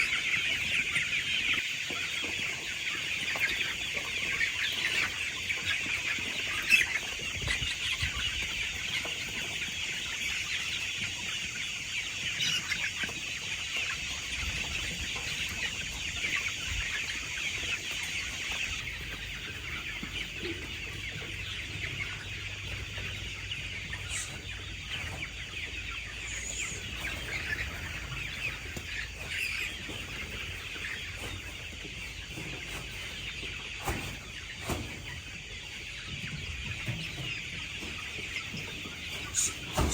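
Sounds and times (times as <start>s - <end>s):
flock of chickens clucking: 0.0s - 39.9s.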